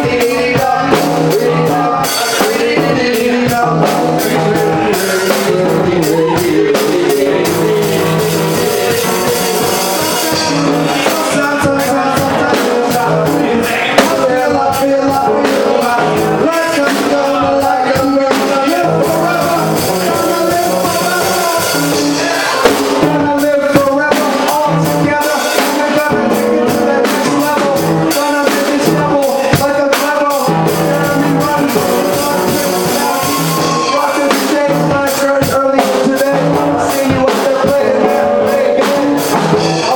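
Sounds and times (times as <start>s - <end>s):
drum kit beat: 0.0s - 39.9s
electric guitar: 0.0s - 39.9s.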